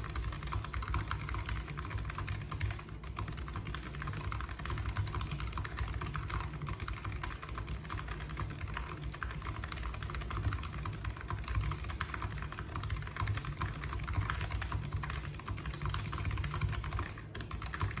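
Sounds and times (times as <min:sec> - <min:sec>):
fast typing on mechanical keyboard: 0:00.0 - 0:18.0.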